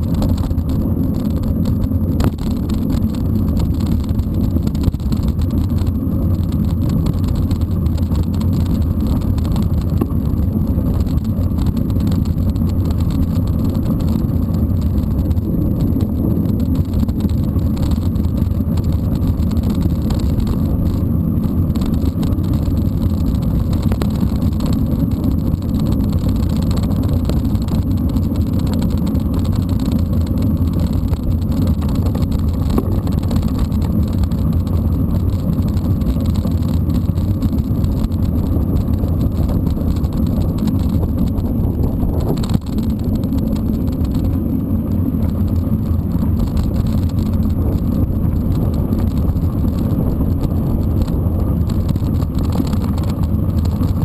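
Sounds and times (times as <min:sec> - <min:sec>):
bike tyres on dirt road: 0:00.0 - 0:54.0
wind buffeting microphone: 0:00.0 - 0:54.0.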